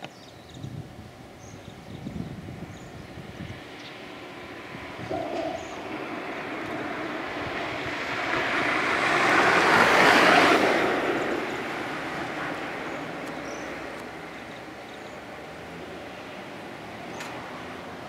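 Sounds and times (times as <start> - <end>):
vehicle passing by: 3.2 - 18.0.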